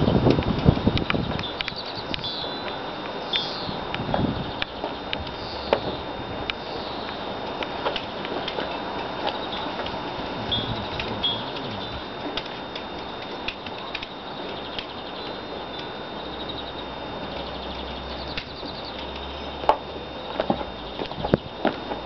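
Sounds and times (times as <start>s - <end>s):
small birds chirping: 0.0s - 21.7s.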